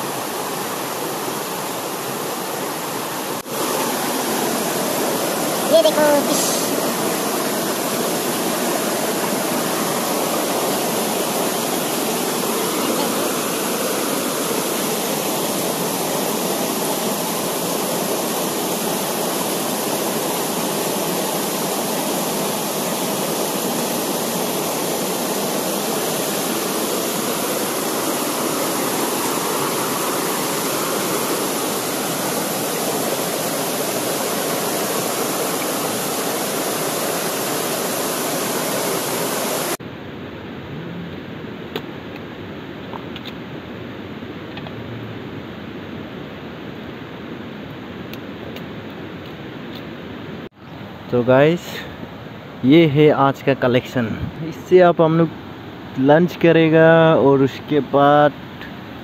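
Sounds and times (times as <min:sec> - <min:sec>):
mountain stream rushing over rocks: 0:00.0 - 0:59.0.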